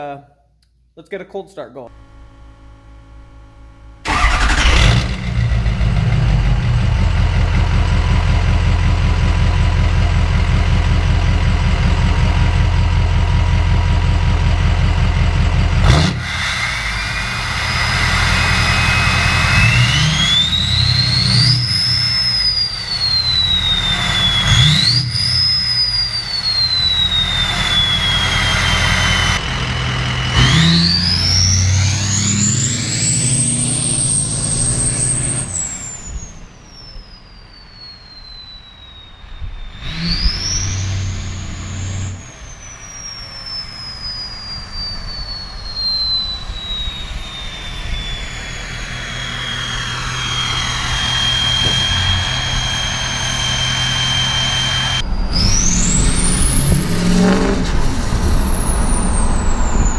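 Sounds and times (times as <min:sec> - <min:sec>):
diesel truck engine revving: 0:01.9 - 0:36.8, 0:39.7 - 0:59.9
turbo whistle: 0:01.9 - 0:59.9.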